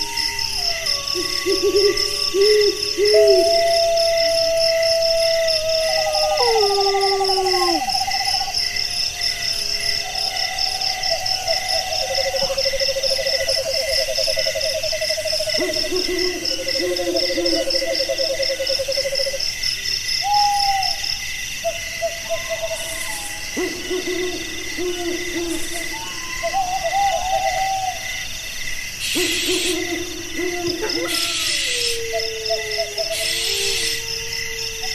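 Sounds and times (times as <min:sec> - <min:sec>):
wavering animal calls: 0:00.0 - 0:08.7, 0:09.6 - 0:19.3, 0:21.7 - 0:28.2, 0:29.0 - 0:34.9
insects chirping: 0:00.0 - 0:34.9.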